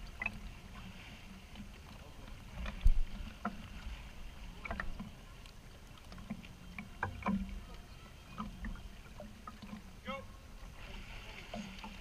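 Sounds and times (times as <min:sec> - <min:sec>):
pool water sloshing and splashing: 0:00.0 - 0:12.0.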